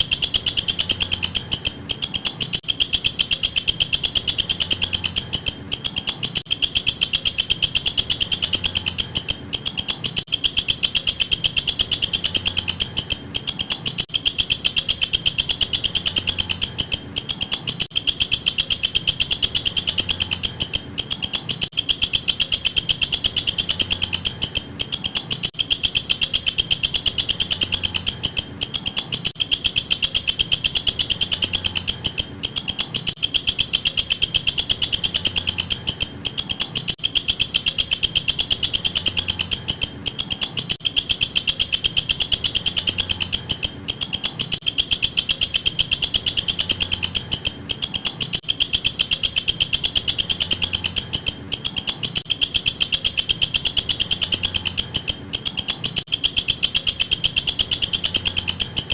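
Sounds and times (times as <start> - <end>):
grasshopper high-pitched ticking trill: 0.0 - 58.9.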